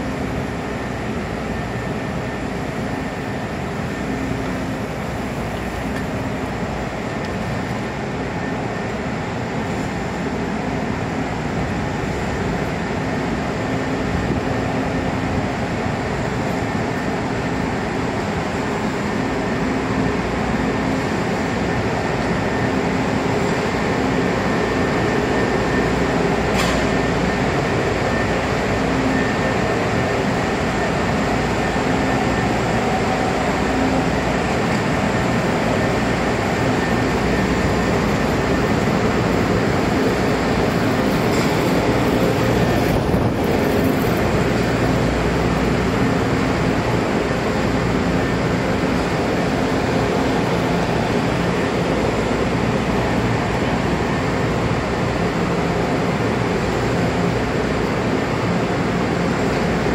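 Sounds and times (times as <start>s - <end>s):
train equipment hum and hiss: 0.0s - 59.9s.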